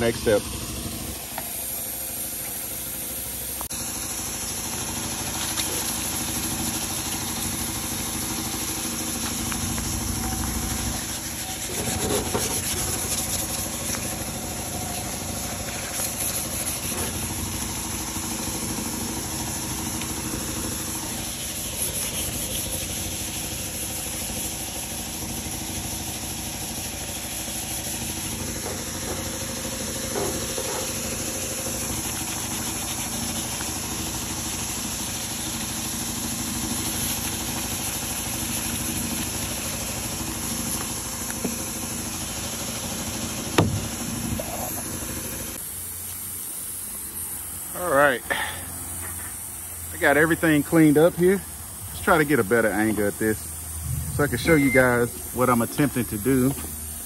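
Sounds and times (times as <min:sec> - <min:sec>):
air compressor humming and hissing: 0:00.0 - 0:57.0.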